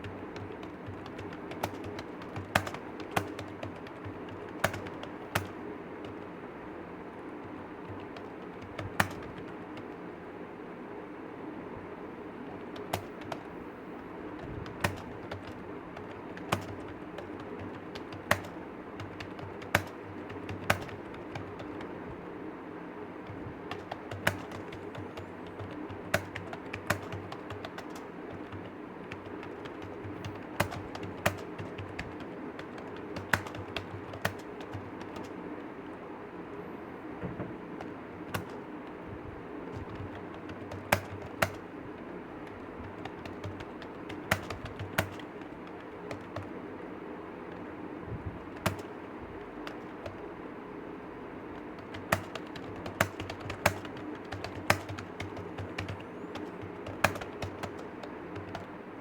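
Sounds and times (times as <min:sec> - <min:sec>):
keyboard typing: 0:00.0 - 0:06.4, 0:07.2 - 0:10.1, 0:12.5 - 0:22.2, 0:23.1 - 0:36.0, 0:37.2 - 0:47.8, 0:48.4 - 0:50.4, 0:51.4 - 0:59.0
steady background hum: 0:00.0 - 0:59.0.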